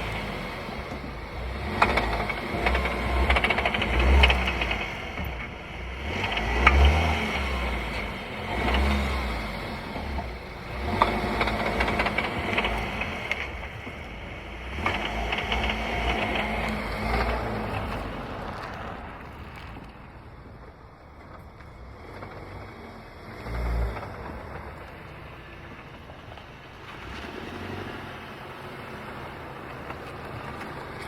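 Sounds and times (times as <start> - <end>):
car engine revving under load: 0.0 - 20.5, 21.4 - 31.0.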